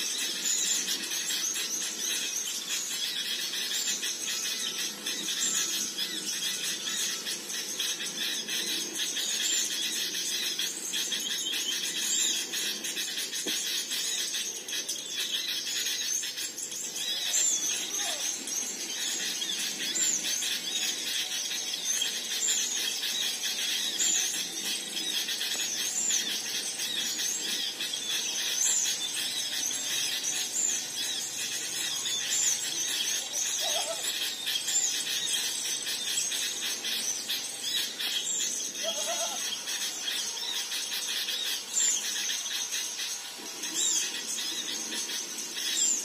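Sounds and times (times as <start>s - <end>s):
songbirds chirping: 0.0s - 46.0s
steady high hiss: 0.0s - 46.0s.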